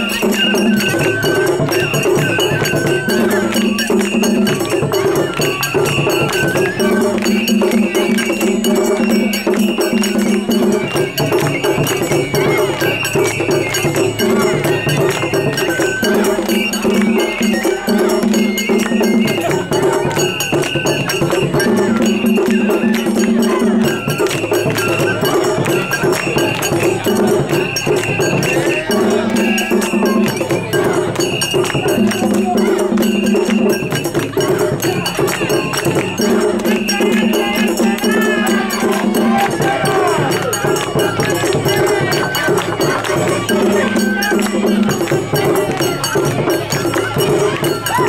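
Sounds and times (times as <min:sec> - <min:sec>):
drums beating: 0:00.0 - 0:48.0.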